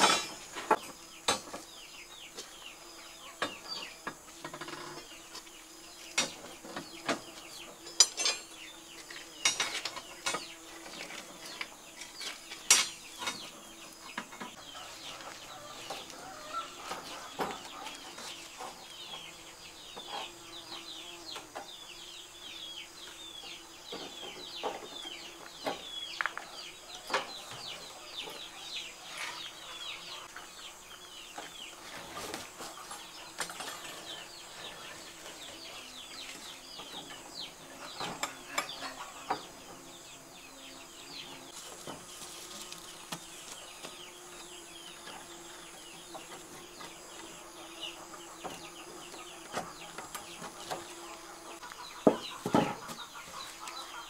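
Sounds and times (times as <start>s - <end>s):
chickens chirping: 0.0s - 54.0s.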